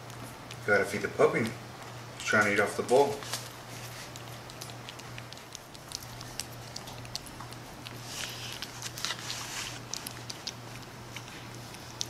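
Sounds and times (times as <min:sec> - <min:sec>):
puppy lapping and smacking: 0:00.0 - 0:12.0.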